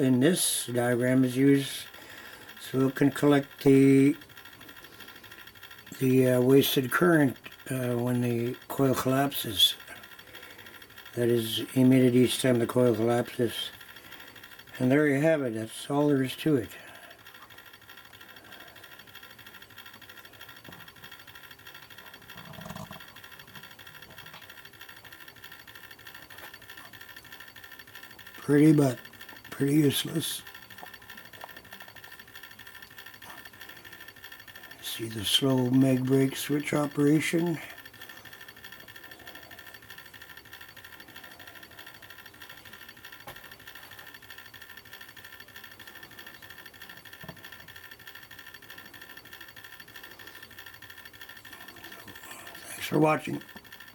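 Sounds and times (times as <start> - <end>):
motor switch ticking rapidly: 0.0 - 53.9.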